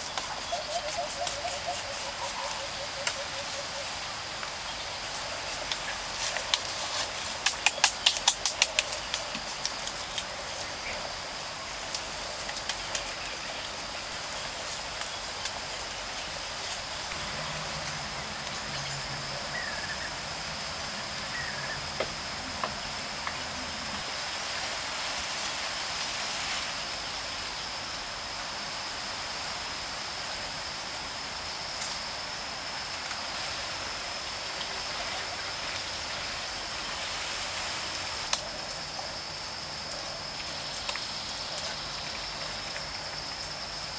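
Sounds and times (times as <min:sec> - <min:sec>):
thin high insect whine: 0:00.0 - 0:24.6, 0:26.2 - 0:43.9
high insect drone: 0:00.0 - 0:43.9.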